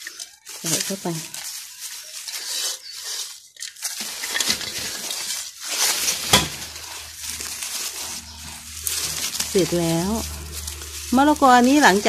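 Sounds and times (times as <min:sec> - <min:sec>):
hand scraping soil and leaves: 0:00.0 - 0:12.0.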